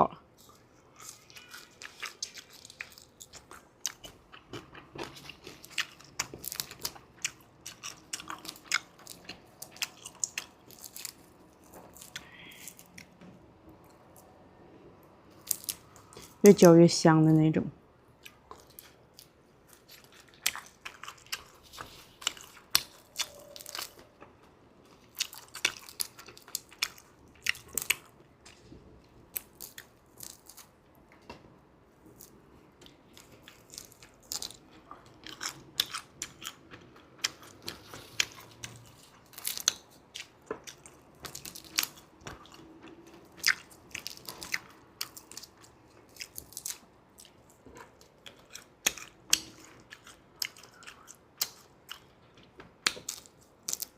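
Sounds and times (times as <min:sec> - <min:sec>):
crunchy chewing: 0:00.4 - 0:13.2, 0:15.3 - 0:16.4, 0:18.2 - 0:28.7, 0:29.3 - 0:30.8, 0:32.0 - 0:53.9.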